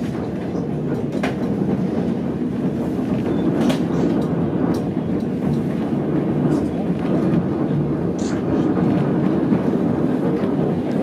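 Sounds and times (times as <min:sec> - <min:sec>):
train car wheels rumbling: 0:00.0 - 0:11.0.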